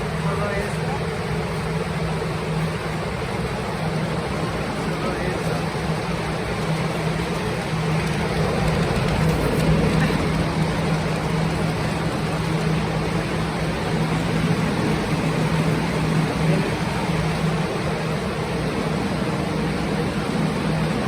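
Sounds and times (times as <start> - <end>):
blower fans humming: 0.0 - 21.0.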